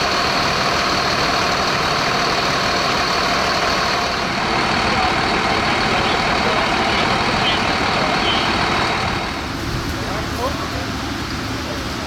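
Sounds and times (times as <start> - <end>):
continuous rushing noise: 0.0 - 12.0
fire truck engine running: 0.0 - 12.0.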